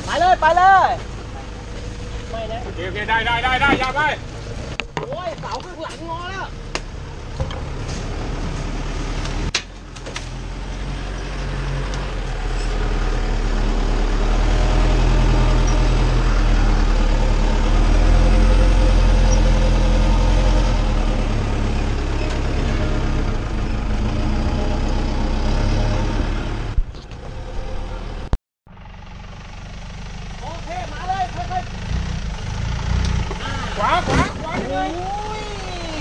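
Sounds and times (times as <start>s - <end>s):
vehicle engine under load: 0.0s - 36.0s.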